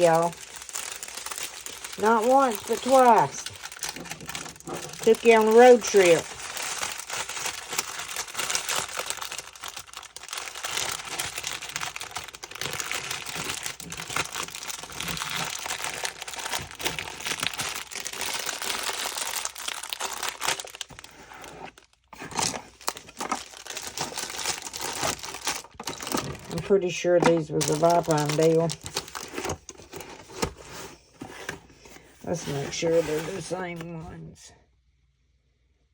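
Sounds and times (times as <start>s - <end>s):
plastic bags crinkling: 0.0s - 33.8s.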